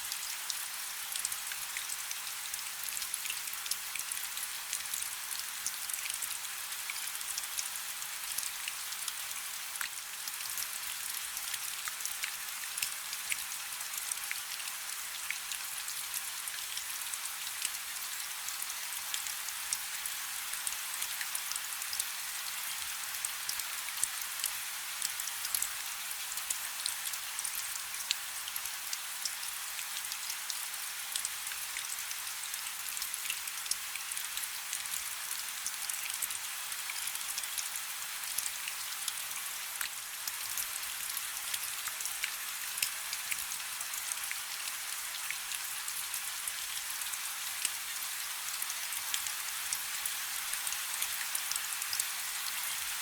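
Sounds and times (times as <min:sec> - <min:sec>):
rain falling on a river: 0:00.0 - 0:53.0.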